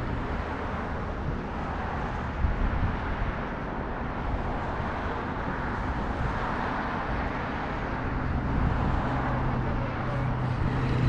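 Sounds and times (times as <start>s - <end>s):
outdoor rushing noise: 0.0s - 11.0s.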